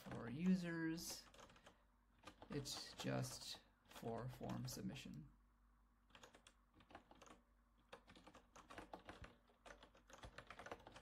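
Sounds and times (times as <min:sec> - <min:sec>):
rapid keyboard typing: 0:00.0 - 0:05.1, 0:06.0 - 0:11.0.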